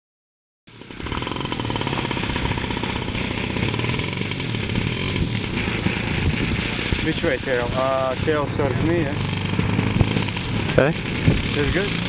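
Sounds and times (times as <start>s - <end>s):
model plane engine running: 0.7s - 12.0s.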